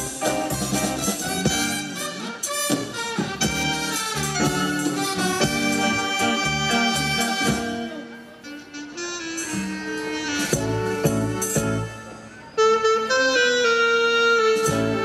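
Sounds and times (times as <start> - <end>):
saxophone-led wind ensemble: 0.0 - 15.0.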